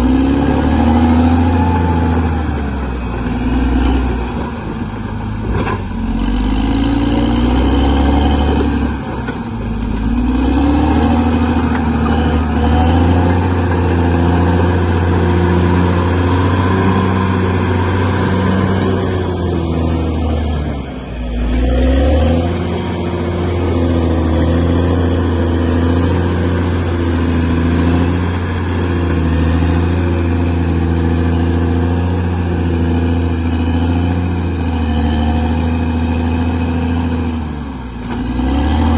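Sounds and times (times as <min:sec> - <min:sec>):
bulldozer diesel engine working: 0:00.0 - 0:38.9.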